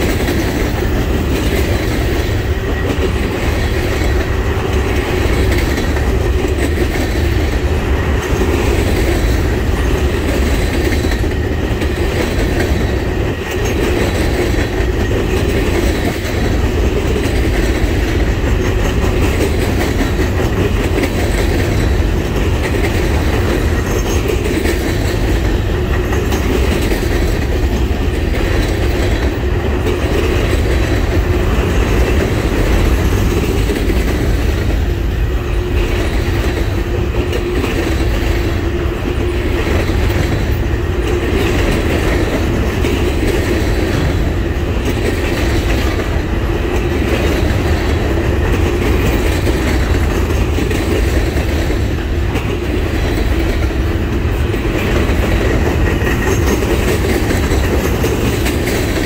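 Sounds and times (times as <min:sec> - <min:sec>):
steel wheels rumbling on rail: 0:00.0 - 0:59.0
wheels clickety-clack on rail joints: 0:00.0 - 0:59.0.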